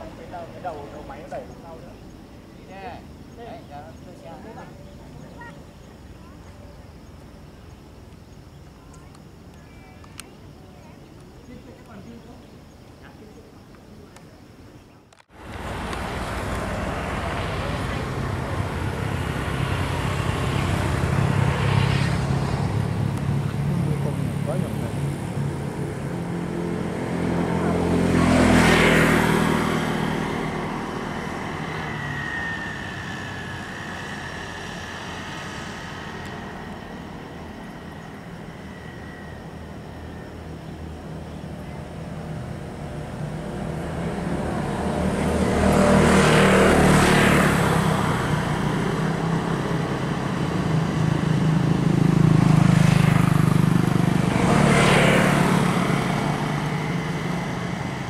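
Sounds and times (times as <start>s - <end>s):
vehicles passing by: 0.0s - 58.0s.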